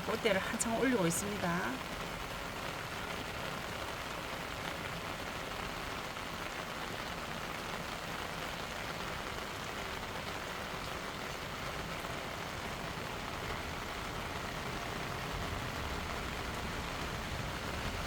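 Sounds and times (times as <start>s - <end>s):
rain on a roof: 0.0s - 18.0s.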